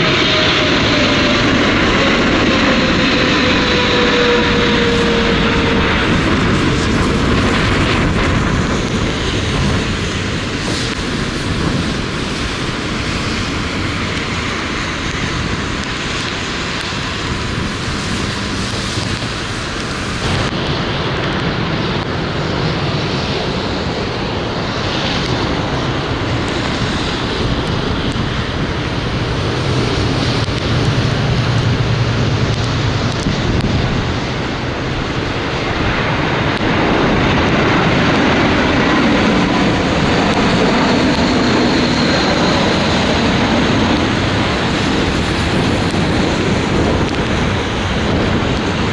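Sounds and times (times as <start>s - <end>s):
jet engines with high whine: 0.0s - 48.9s
wind buffeting microphone: 0.0s - 48.9s.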